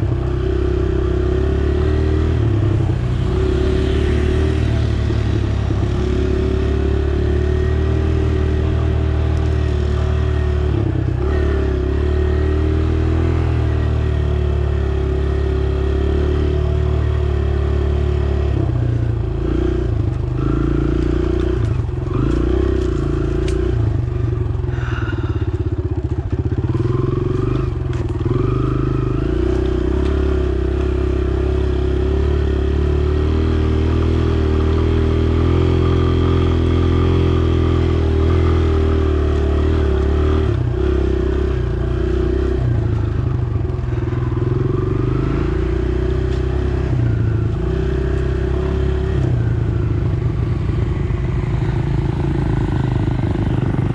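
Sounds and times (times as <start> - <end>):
dirt bike engine revving: 0.0 - 18.7, 19.3 - 23.9, 24.7 - 53.9.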